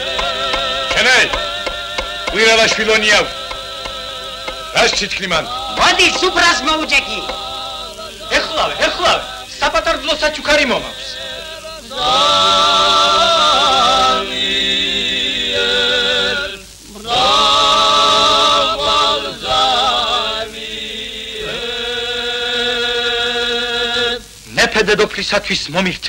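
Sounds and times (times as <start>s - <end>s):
choir singing long notes: 0.0s - 24.3s.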